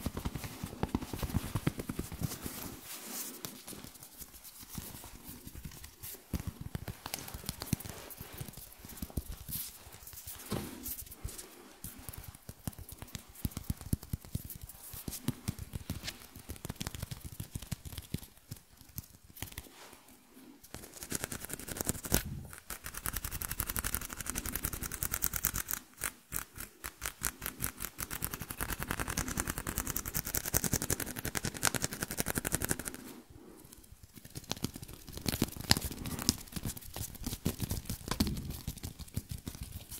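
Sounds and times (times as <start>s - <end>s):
hands rubbing on microphones: 0.0s - 39.9s.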